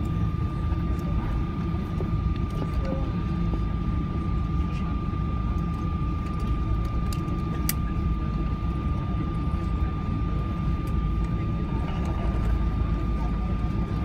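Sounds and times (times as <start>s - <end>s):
aircraft cabin rumble: 0.0s - 14.0s
thin steady whine: 0.0s - 14.0s.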